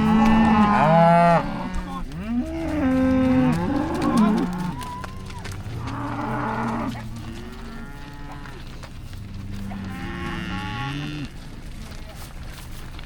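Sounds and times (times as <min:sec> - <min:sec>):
cattle mooing: 0:00.0 - 0:11.5.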